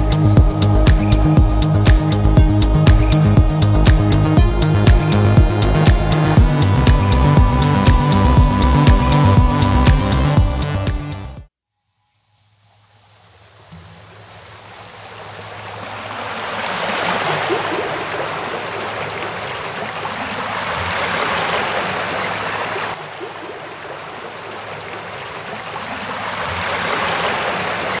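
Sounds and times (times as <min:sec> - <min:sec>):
rushing water: 0:00.0 - 0:11.1, 0:13.0 - 0:28.0.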